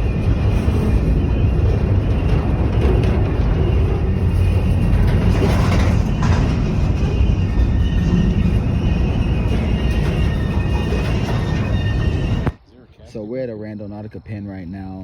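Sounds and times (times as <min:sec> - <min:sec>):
low rumble of vehicle noise: 0:00.0 - 0:15.0.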